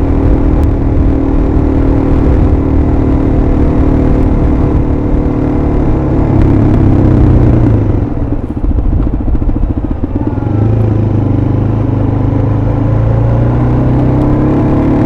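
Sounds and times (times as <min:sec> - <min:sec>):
motorcycle engine riding: 0:00.0 - 0:15.0.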